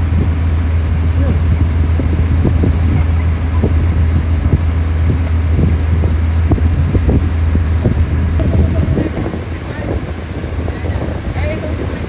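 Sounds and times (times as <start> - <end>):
vehicle droning: 0.0 - 10.7
wind on microphone: 0.0 - 12.0.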